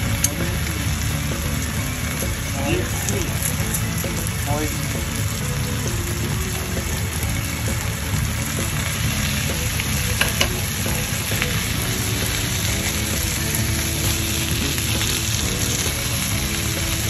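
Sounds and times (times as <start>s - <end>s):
frying sizzle in oil: 0.0s - 17.0s.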